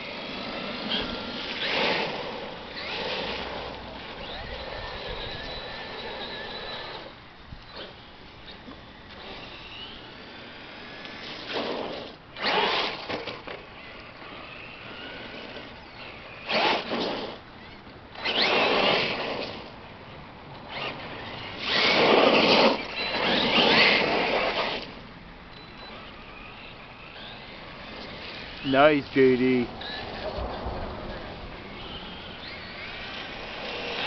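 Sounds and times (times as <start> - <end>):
electric motor whining: 0.0 - 19.7, 20.6 - 34.0.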